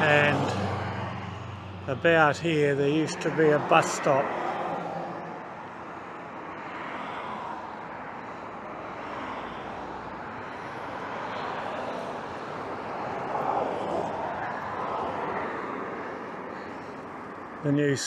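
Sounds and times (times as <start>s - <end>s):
cars driving past: 0.0s - 17.7s.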